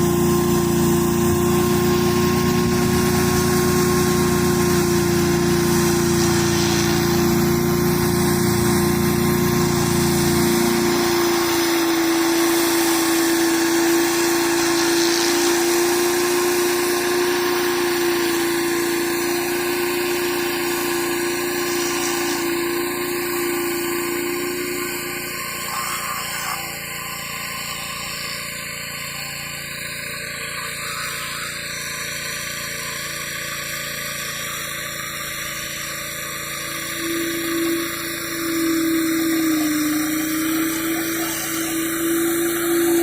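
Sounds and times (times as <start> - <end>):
pressure washer engine hum: 0.0 - 43.0
water spraying onto concrete: 0.0 - 43.0.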